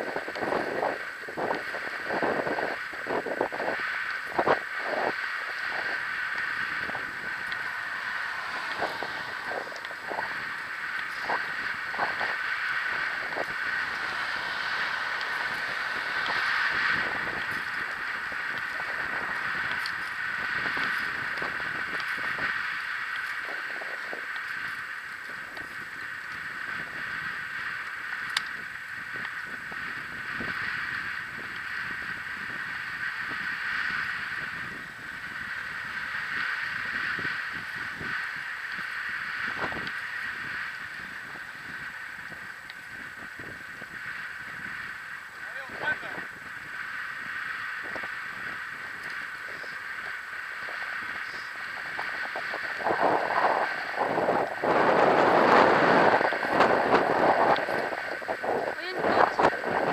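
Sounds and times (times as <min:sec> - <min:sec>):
skateboard wheels rolling on asphalt: 0:00.0 - 0:59.9.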